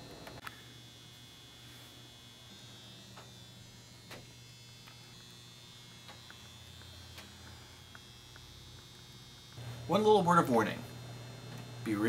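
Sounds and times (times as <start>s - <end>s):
electrical hum: 0.0s - 12.0s
thin high whine: 0.0s - 12.0s.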